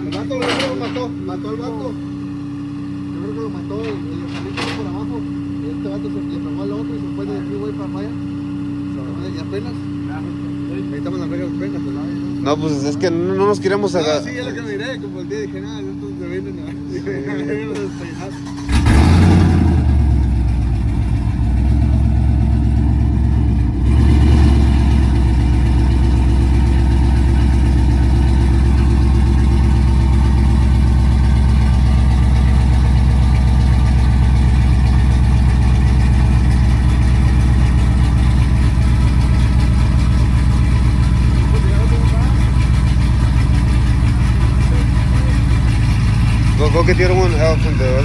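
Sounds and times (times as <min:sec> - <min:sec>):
pickup truck engine idling: 0:00.0 - 0:48.0.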